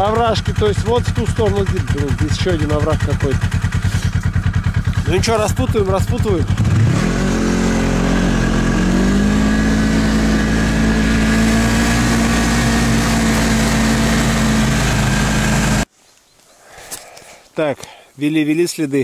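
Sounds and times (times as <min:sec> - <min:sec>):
snowmobile engine: 0:00.0 - 0:15.9.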